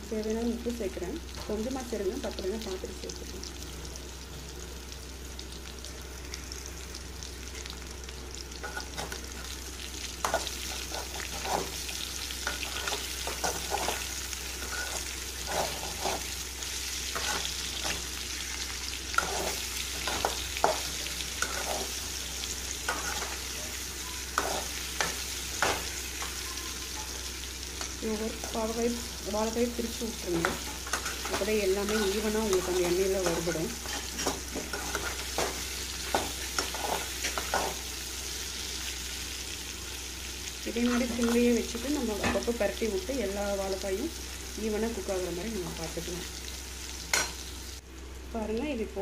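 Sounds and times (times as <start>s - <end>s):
slices sizzling in oil: 0.0s - 49.0s.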